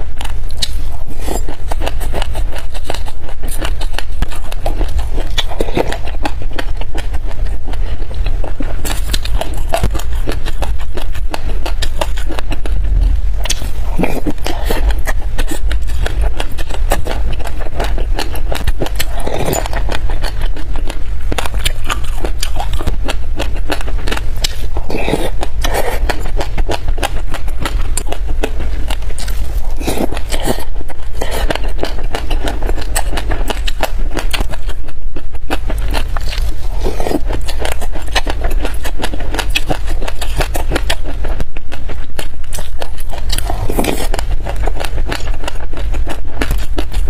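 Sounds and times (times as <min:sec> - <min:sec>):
crunchy chewing of seeds: 0:00.0 - 0:47.0
steady low hum: 0:00.0 - 0:47.0.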